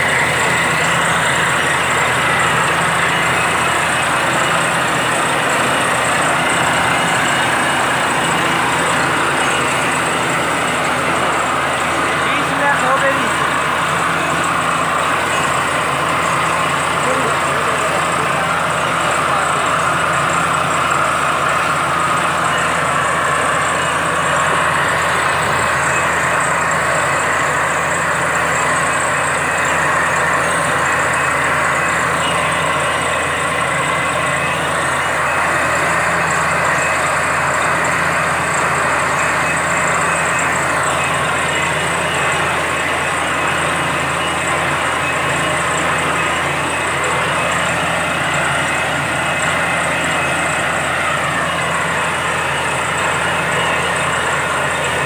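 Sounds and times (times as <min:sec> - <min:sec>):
drilling rig engine running: 0:00.0 - 0:55.0
hammer drilling: 0:00.0 - 0:55.0.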